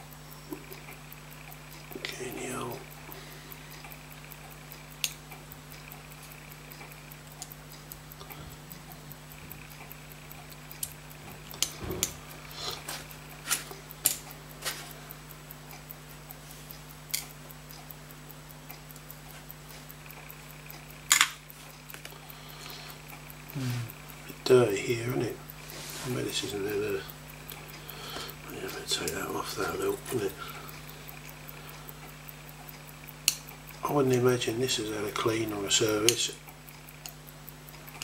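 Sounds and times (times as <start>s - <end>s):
fast watch ticking: 0.0s - 38.0s
steady low hum: 0.0s - 38.0s
metallic clicks and taps: 1.7s - 14.9s, 15.7s - 18.0s, 18.7s - 23.3s, 24.1s - 38.0s.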